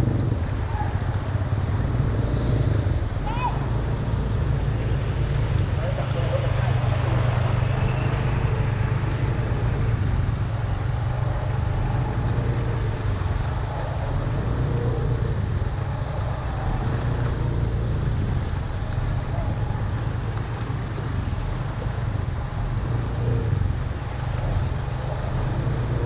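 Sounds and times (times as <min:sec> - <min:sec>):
traffic on a wet road: 0:00.0 - 0:26.0.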